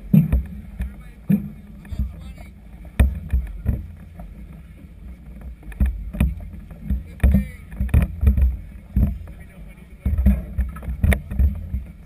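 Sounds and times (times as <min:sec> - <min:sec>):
sharp thumps and knocks: 0:00.0 - 0:04.4, 0:05.4 - 0:12.0
choppy water: 0:00.0 - 0:12.0.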